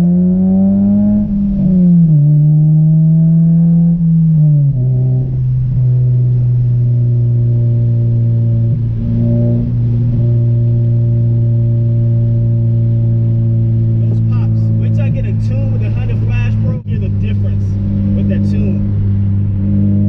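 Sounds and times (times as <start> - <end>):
car engine droning while driving: 0.0 - 20.0.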